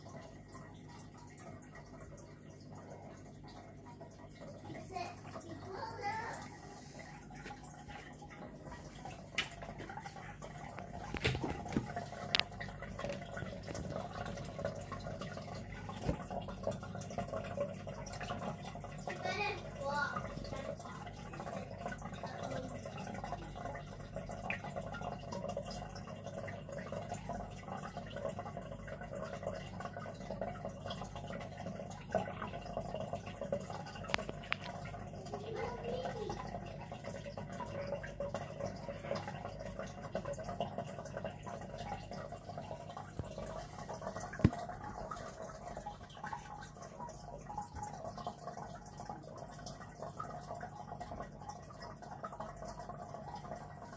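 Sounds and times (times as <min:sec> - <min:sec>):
aquarium filter water trickling: 0:00.0 - 0:53.9.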